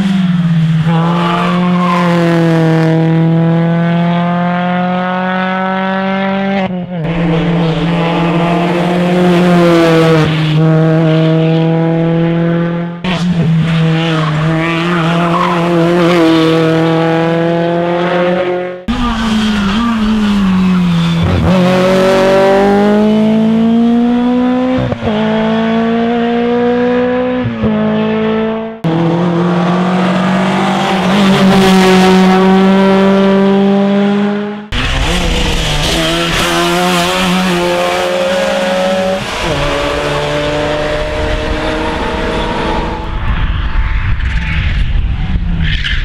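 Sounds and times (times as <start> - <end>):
rally car engines at full throttle: 0.0 - 46.0.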